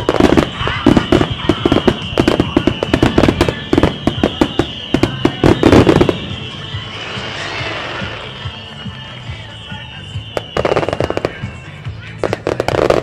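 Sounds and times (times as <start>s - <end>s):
fireworks booming barrage: 0.0s - 13.0s.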